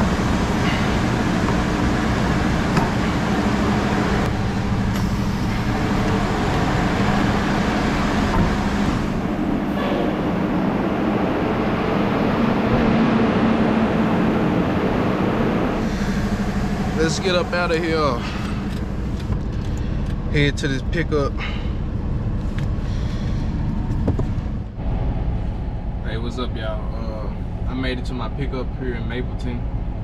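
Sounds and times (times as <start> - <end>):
diesel truck engine droning: 0.0 - 30.0
road rumble: 0.0 - 30.0.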